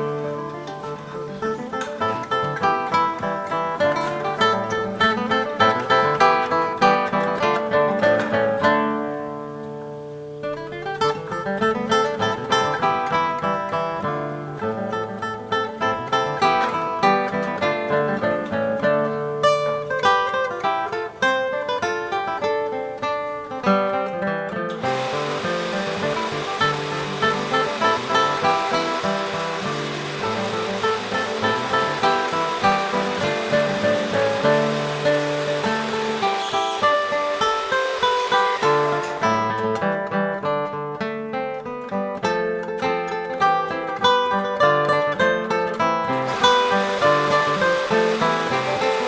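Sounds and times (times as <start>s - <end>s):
plucked string early music: 0.0s - 49.0s.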